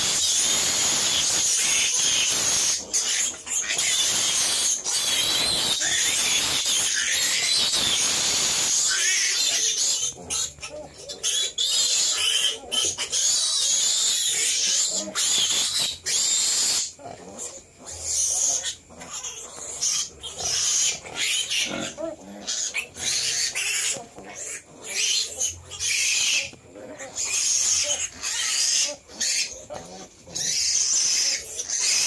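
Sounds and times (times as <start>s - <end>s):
piglets squealing: 0.0s - 32.0s.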